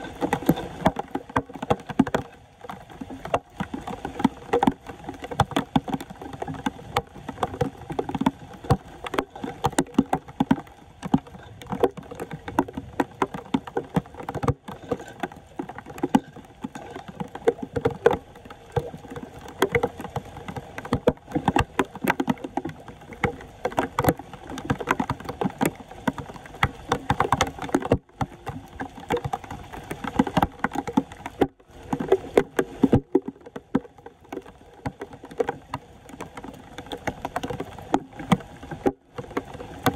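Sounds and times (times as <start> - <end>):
floodwater splashing: 0.0 - 39.9.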